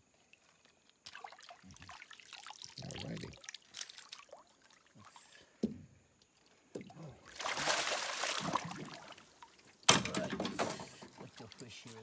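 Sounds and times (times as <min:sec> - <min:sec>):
water splashing and sloshing: 0:00.0 - 0:05.6, 0:06.2 - 0:12.0.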